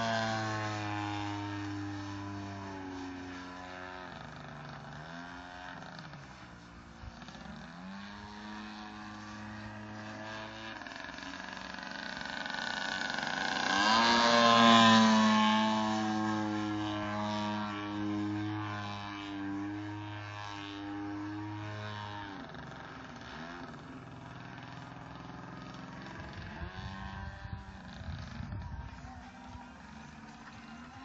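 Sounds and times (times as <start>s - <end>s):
model airplane engine flying by: 0.0s - 31.0s.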